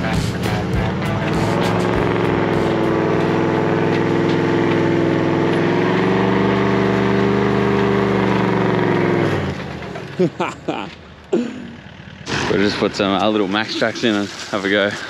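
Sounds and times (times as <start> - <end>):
engine droning under load: 0.0 - 15.0.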